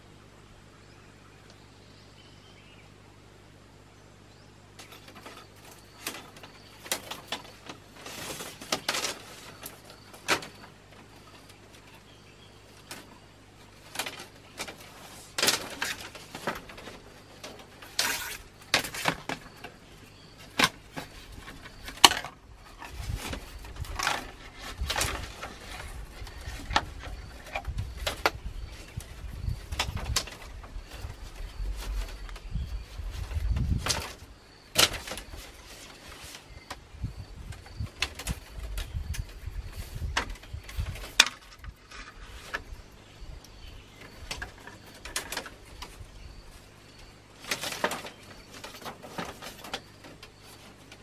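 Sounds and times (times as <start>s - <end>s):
faint steady hum: 0.0s - 51.0s
bamboo strips rustling and clicking: 4.8s - 51.0s.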